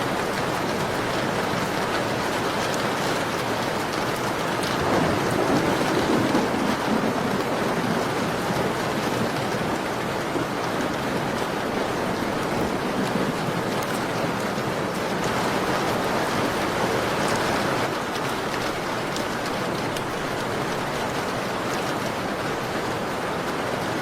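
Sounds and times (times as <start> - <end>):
rain on a window: 0.0 - 24.0.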